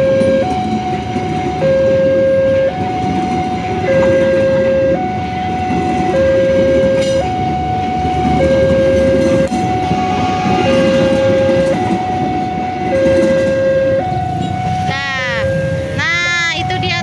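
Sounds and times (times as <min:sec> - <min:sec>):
level crossing two-tone alarm: 0:00.0 - 0:17.0
train coaches rumbling past: 0:00.0 - 0:17.0.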